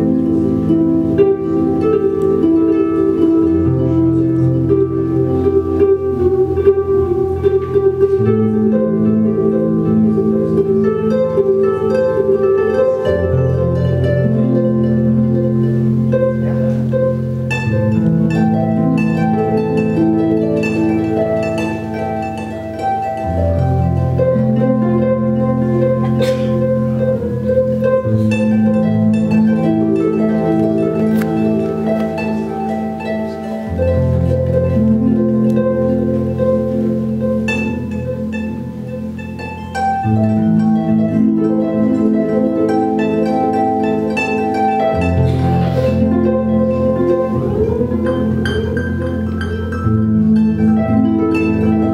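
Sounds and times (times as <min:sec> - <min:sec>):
looped low harp notes: 0:00.0 - 0:51.9
plucked harp notes: 0:00.0 - 0:51.9.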